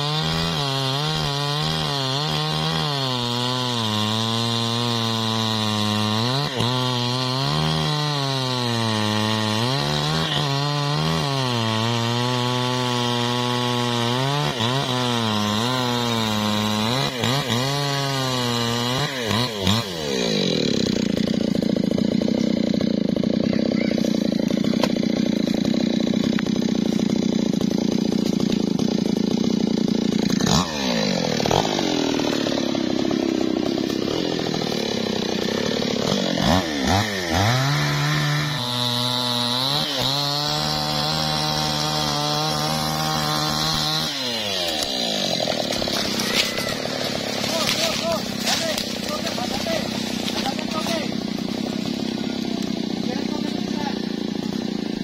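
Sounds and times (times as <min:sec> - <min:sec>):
chainsaw cutting: 0:00.0 - 0:55.0.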